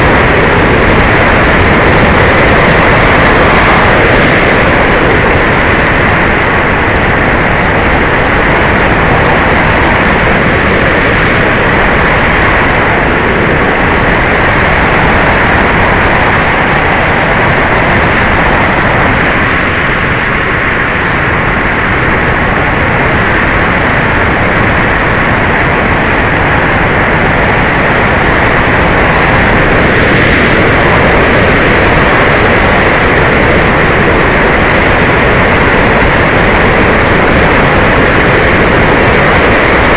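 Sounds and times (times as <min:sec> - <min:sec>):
airflow rushing: 0:00.0 - 0:39.9
model plane motor and propeller: 0:00.0 - 0:39.9.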